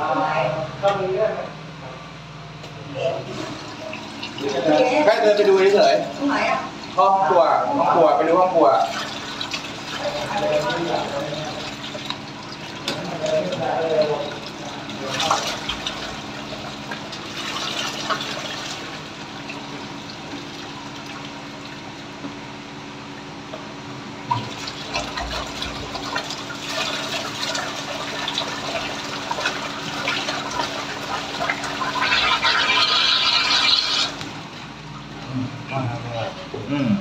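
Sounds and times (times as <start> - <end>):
water gushing from drain pipe: 3.0 - 35.2.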